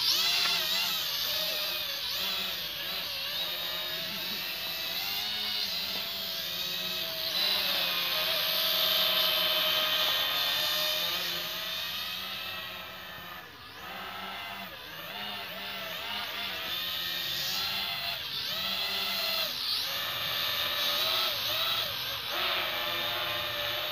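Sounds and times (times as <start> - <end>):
toy quadcopter motors whining: 0.0 - 23.9.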